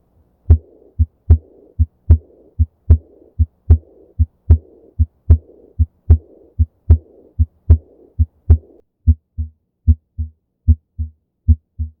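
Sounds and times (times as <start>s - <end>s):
heartbeat lub-dub: 0.5s - 12.0s
soft blowing heart murmur: 0.5s - 12.0s.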